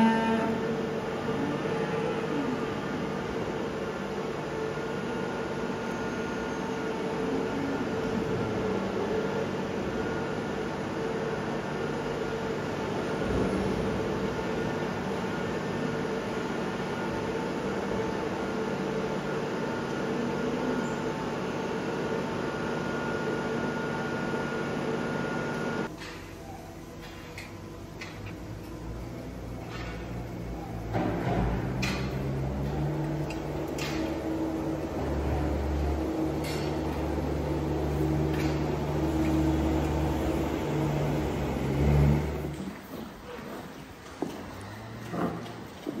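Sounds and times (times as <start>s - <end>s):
machine running with hum: 0.0s - 25.9s, 26.8s - 42.6s.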